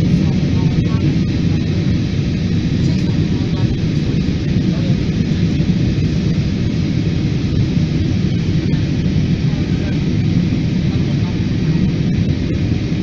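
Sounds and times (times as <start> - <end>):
jet cabin engine noise: 0.0 - 13.0.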